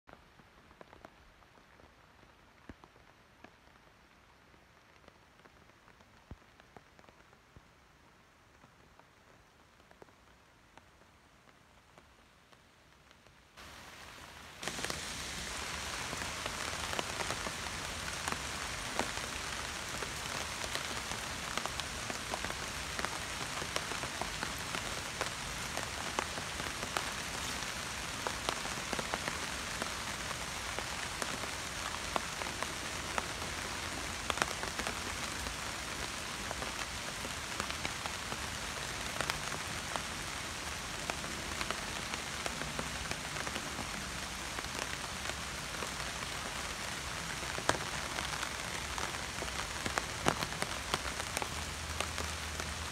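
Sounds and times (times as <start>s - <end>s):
rain falling on leaves: 0.1s - 52.9s.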